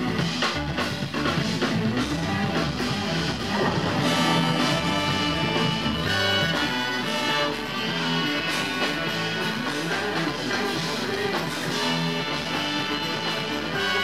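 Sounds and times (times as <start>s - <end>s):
bass guitar: 0.0s - 14.0s
drums: 0.0s - 14.0s
electric guitars: 0.0s - 14.0s
keyboard: 0.0s - 14.0s
trumpet and saxophone: 0.0s - 14.0s.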